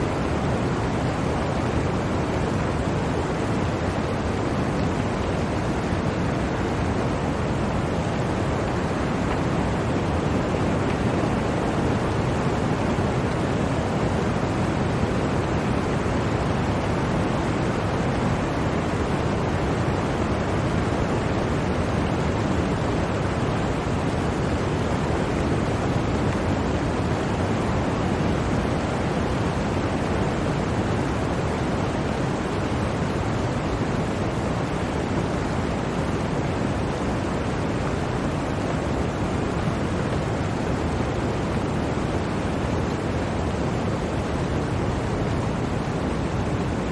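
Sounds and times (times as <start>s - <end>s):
blizzard wind rushing: 0.0s - 46.9s.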